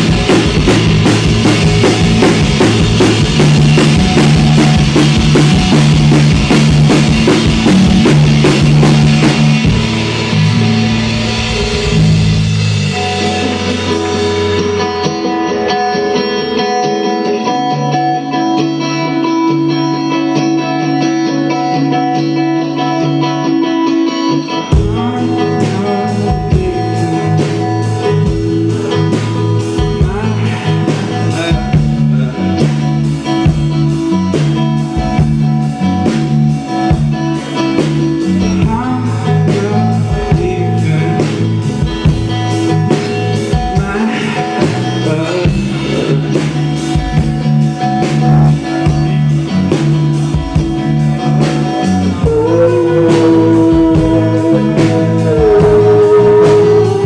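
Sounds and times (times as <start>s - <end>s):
held guitar notes ringing: 0.0s - 57.0s
rock band playing: 0.0s - 57.0s.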